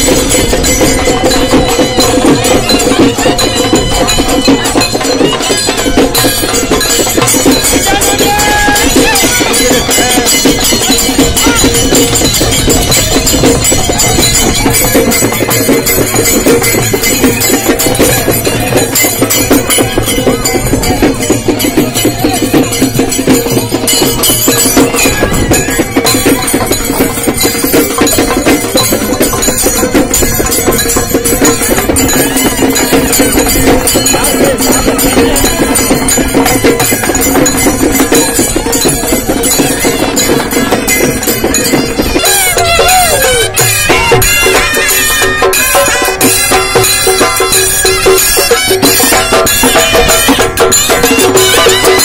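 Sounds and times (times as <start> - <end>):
fast procession percussion: 0.0 - 52.0.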